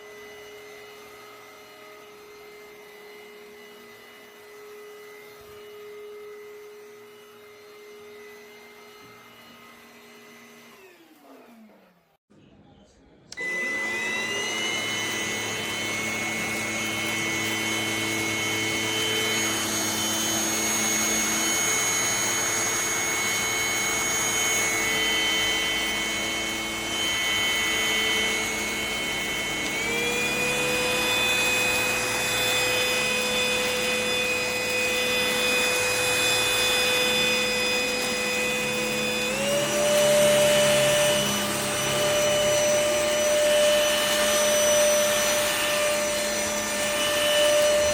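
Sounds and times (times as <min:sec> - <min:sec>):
stick vacuum motor whine: 0:00.0 - 0:11.8, 0:13.3 - 0:47.9.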